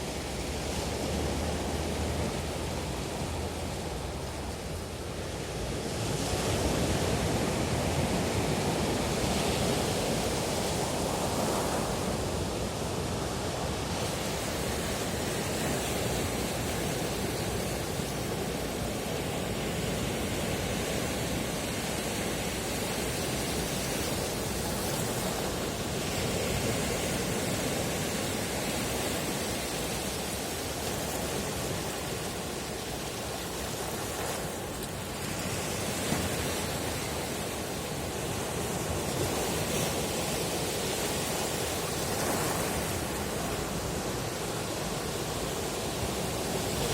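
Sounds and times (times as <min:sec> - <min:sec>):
sea waves on a beach: 0:00.0 - 0:46.9.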